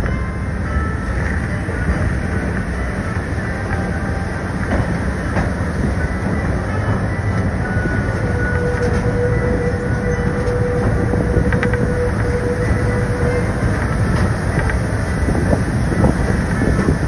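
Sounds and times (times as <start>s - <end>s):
steady high tone: 0.0s - 17.0s
train wheels rumbling: 0.0s - 17.0s.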